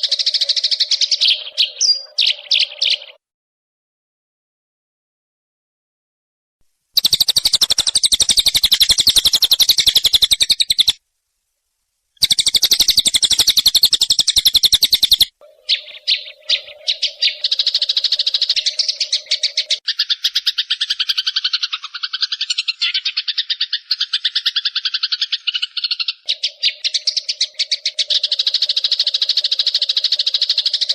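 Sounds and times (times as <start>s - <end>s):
sparrows chattering: 0.0s - 3.2s, 7.0s - 11.0s, 12.2s - 30.9s.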